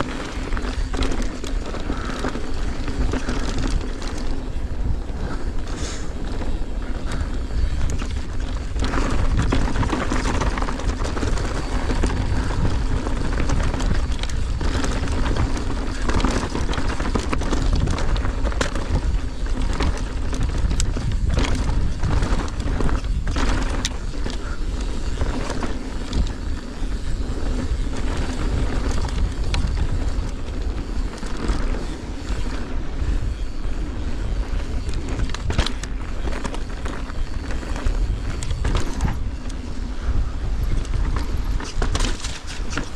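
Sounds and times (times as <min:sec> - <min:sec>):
bike rattling and clacking: 0:00.0 - 0:42.9
bike tyres on dirt and rock: 0:00.0 - 0:42.9
wind rumble on microphone: 0:00.0 - 0:42.9.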